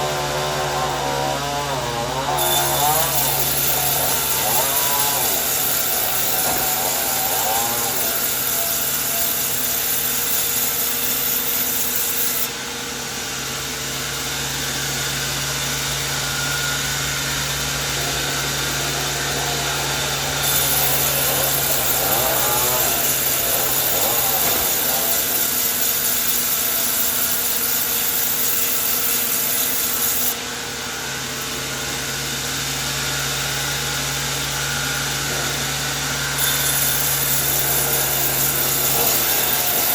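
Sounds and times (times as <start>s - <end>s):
motor hum: 0.0s - 39.9s
saw cutting wood: 0.0s - 39.9s.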